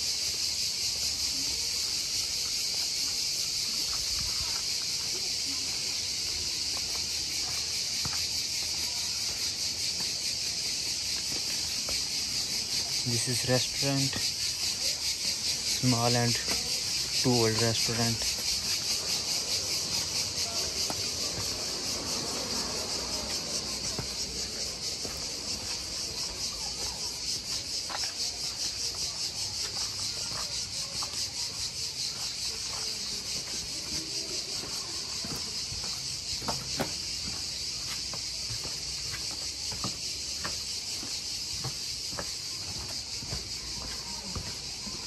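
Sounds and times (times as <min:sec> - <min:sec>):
cicadas droning: 0:00.0 - 0:45.0.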